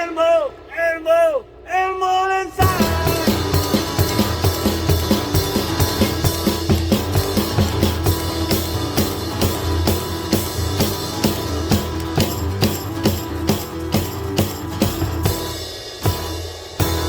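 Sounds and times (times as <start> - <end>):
rock band playing: 2.6 - 17.0.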